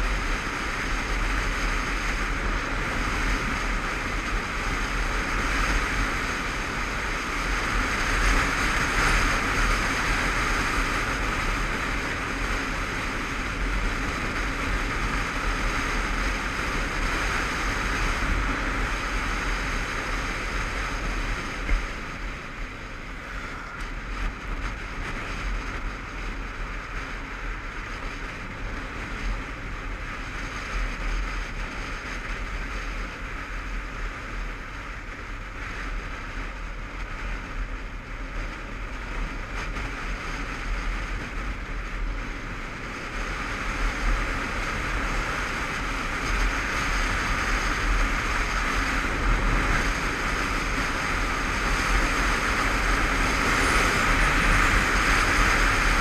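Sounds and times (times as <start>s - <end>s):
motorcycle engine and road rumble: 0.0s - 56.0s
wind rushing over camera: 0.0s - 56.0s.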